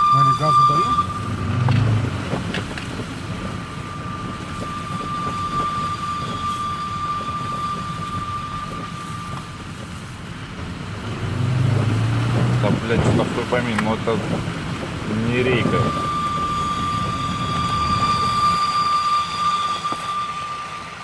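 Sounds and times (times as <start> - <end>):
high-pitched car whistle: 0.0 - 10.3, 11.3 - 21.0
low rumble of moving car: 0.0 - 21.0.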